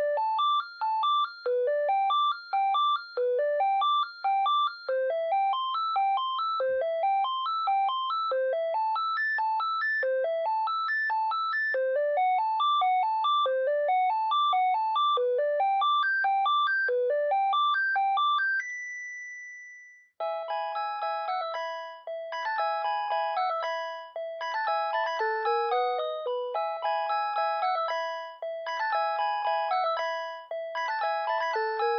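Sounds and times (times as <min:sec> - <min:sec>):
electronic phone ringtones: 0:00.2 - 0:09.9, 0:12.2 - 0:31.9.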